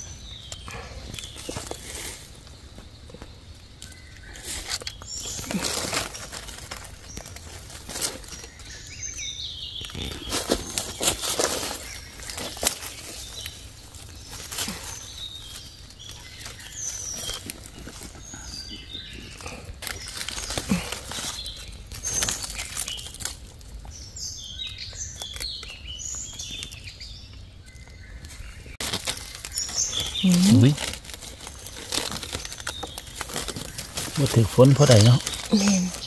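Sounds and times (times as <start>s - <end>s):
birds chirping: 0.0s - 36.0s
dry leaves rustling and crackling: 0.0s - 36.0s.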